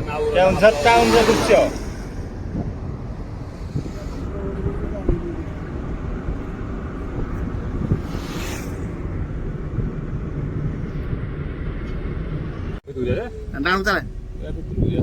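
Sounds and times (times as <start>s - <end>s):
wind buffeting the microphone: 0.0s - 13.3s, 14.0s - 15.0s.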